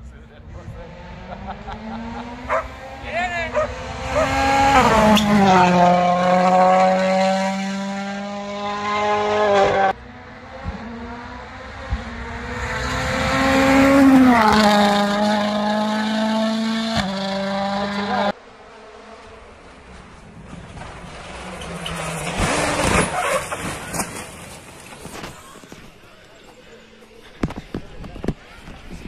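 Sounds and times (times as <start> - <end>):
rally cars passing at speed: 0.4 - 25.7.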